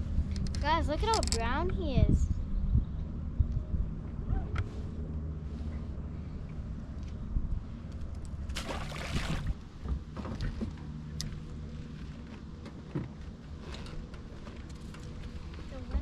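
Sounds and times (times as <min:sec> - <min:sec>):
boat engine humming: 0:00.0 - 0:16.0
wind: 0:00.0 - 0:16.0.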